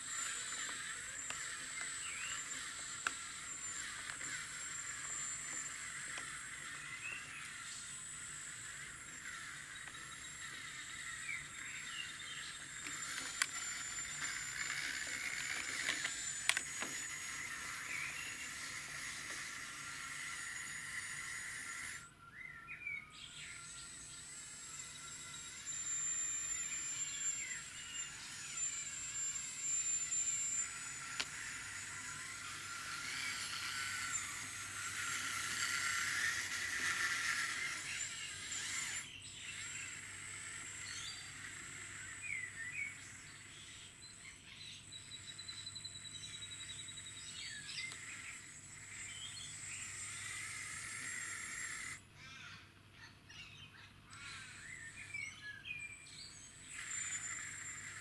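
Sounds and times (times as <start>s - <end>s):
electric motor whine: 0.0s - 52.1s, 54.1s - 58.0s
birds chirping: 0.0s - 58.0s.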